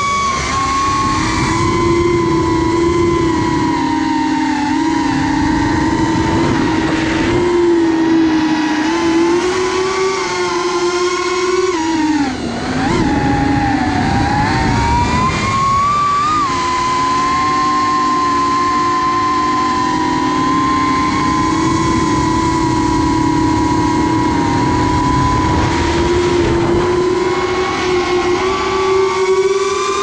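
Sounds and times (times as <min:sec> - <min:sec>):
drone propellers whining: 0:00.0 - 0:30.0
wind rush: 0:00.0 - 0:30.0.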